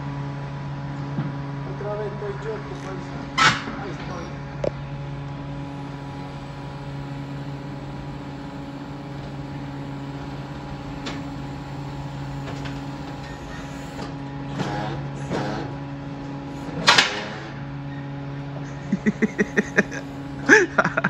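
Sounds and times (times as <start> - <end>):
electric reach truck humming: 0.0 - 21.0.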